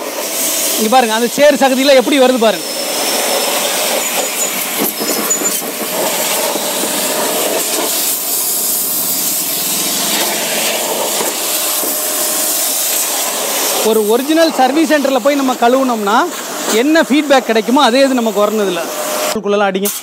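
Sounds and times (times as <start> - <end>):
pressure washer jet hissing: 0.0 - 20.0.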